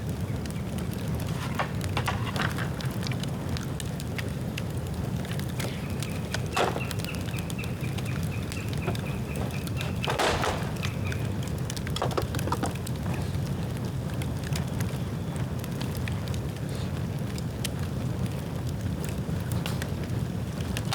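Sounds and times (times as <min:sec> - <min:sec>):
bamboo crackling and popping: 0:00.0 - 0:20.9
fire rumbling: 0:00.0 - 0:20.9.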